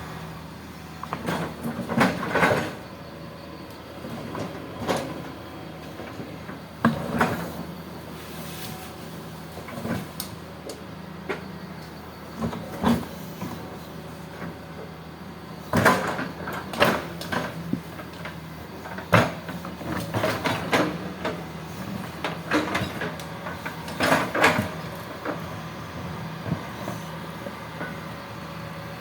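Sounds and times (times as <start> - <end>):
excavator engine running: 0.0 - 29.0.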